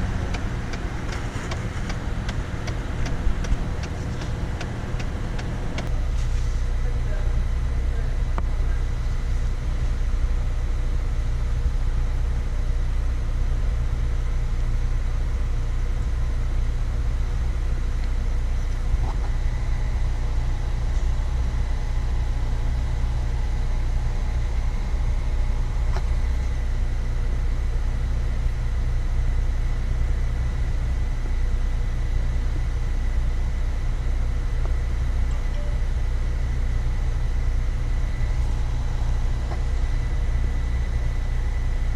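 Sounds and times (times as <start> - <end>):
engine running low rumble: 0.0 - 41.9.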